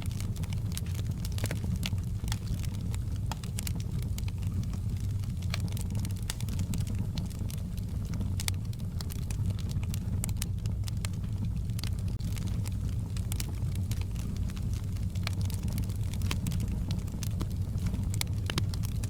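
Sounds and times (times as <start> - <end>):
flames rumbling: 0.0 - 19.0
logs crackling and popping: 0.0 - 19.0.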